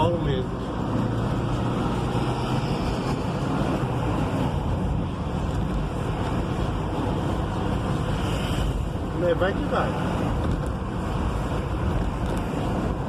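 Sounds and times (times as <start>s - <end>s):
engine and road noise in cab: 0.0s - 13.0s.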